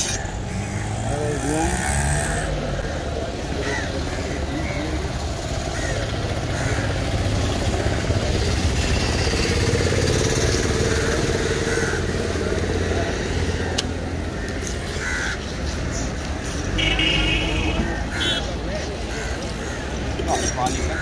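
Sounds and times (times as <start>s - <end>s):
vehicle engine running: 0.3s - 18.4s.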